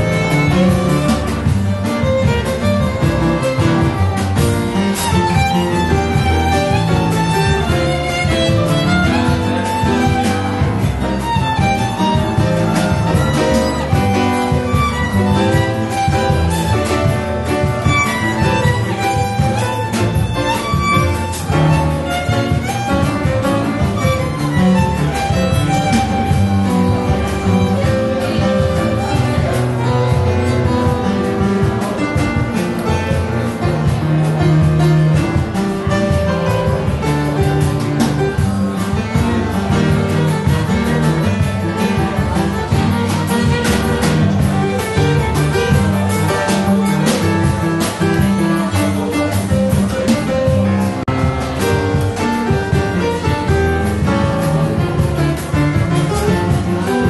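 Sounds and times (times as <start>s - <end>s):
double bass: 0.0s - 57.0s
drum kit: 0.0s - 57.0s
piano: 0.0s - 57.0s
violin playing: 0.0s - 57.0s.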